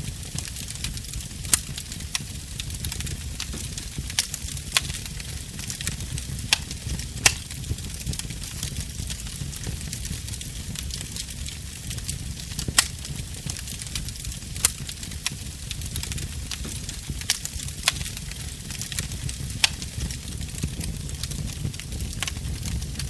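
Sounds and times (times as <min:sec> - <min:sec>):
fireplace fire crackling: 0:00.0 - 0:23.0
sharp fire pops: 0:00.0 - 0:23.0.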